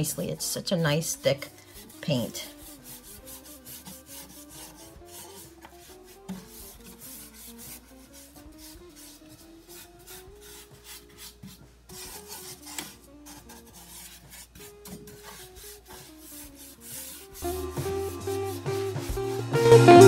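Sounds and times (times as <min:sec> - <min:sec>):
brush scrubbing paint on wood: 0:00.0 - 0:19.6.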